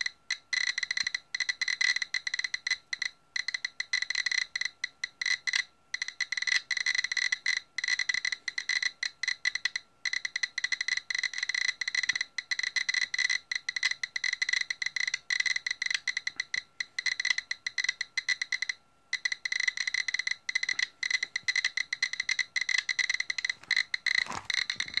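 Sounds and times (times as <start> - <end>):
geiger counter clicking: 0.0 - 25.0.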